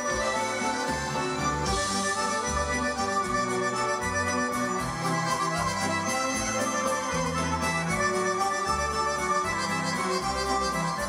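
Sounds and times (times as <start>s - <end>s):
bass line: 0.0s - 11.0s
piano accordions playing melody: 0.0s - 11.0s
string orchestra: 0.0s - 11.0s.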